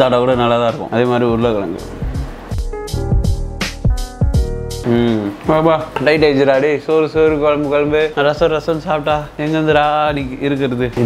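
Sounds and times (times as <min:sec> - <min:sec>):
held chords: 0:00.0 - 0:11.0.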